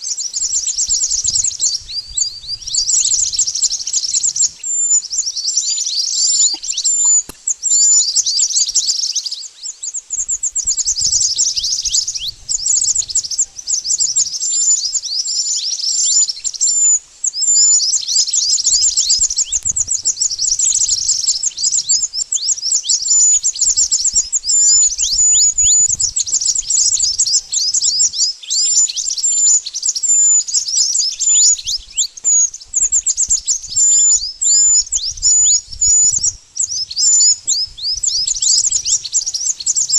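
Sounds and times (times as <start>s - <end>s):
songbird high chirps: 0.0s - 39.9s.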